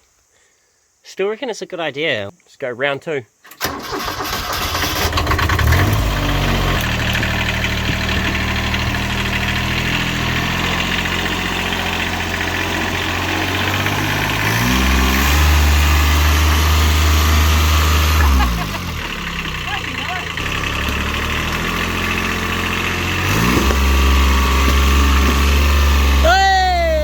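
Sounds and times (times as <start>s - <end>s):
vehicle engine revving under load: 4.5s - 27.0s.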